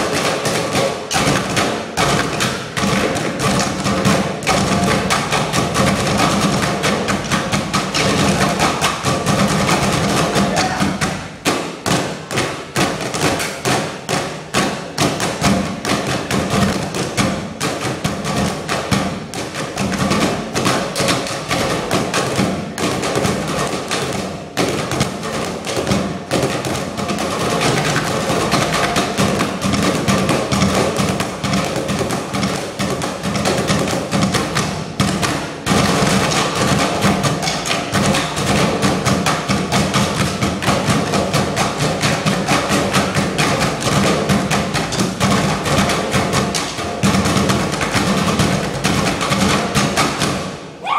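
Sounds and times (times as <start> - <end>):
drumming on trash cans: 0.0 - 50.9.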